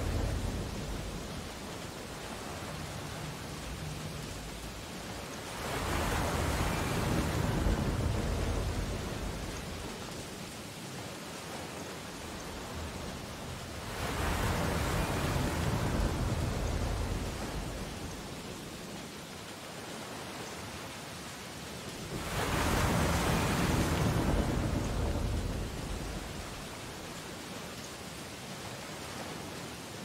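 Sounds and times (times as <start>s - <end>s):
sea waves breaking: 0.0s - 18.8s, 19.9s - 30.0s.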